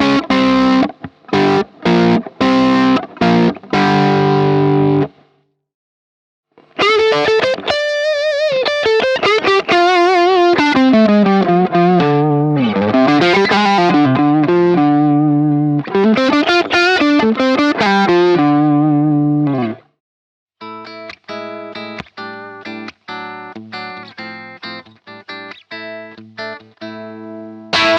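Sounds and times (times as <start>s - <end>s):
gritty electric guitar lead: 0.0s - 5.2s, 6.6s - 19.9s, 20.6s - 27.9s.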